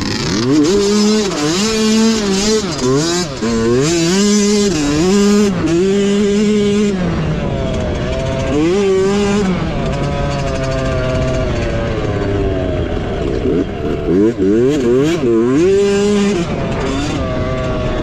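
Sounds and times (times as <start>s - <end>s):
small engine revving: 0.0s - 18.0s.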